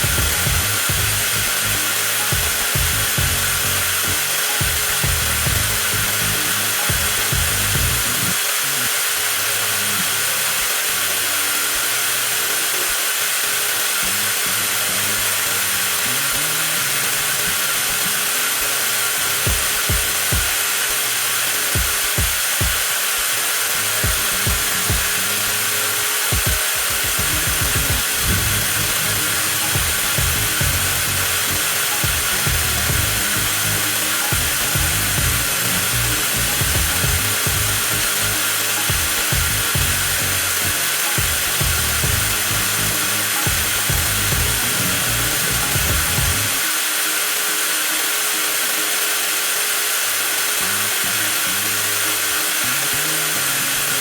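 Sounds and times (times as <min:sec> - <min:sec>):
angle grinder motor whine: 0:00.0 - 0:54.0.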